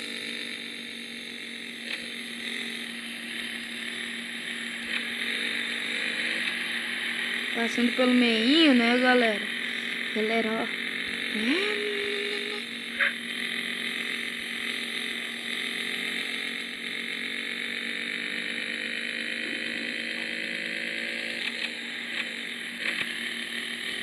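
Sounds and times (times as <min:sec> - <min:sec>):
motorcycle engine buzzing: 0:00.0 - 0:24.0.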